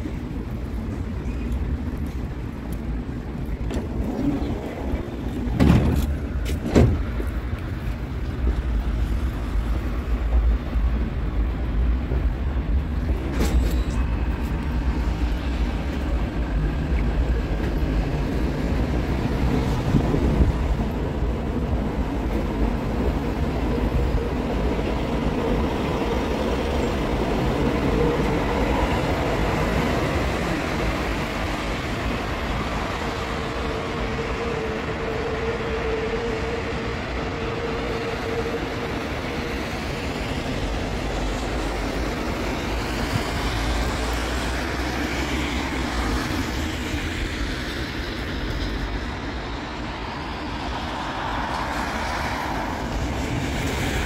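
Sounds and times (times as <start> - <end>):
light-rail train rumbling: 0.0 - 54.0.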